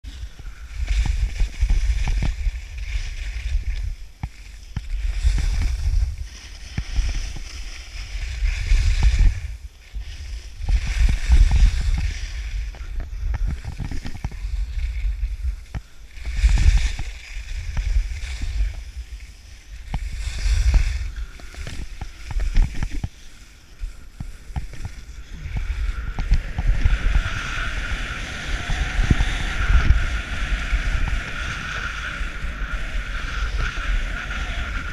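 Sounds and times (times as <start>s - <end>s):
wind buffeting microphone: 0.0s - 23.1s, 24.0s - 34.9s
skis scraping over snow: 0.0s - 34.9s.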